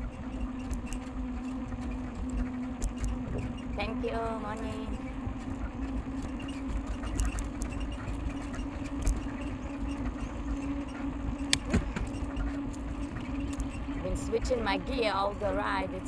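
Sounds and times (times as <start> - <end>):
bicycle clicks: 0.0 - 15.6
steady low hum: 0.0 - 16.0
wind rumbling on microphone: 0.0 - 16.0.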